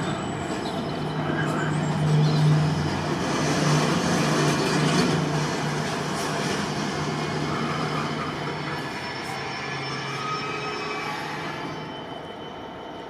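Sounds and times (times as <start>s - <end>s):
train engine drone: 0.0s - 13.0s
wheel and rail noise: 0.0s - 13.0s.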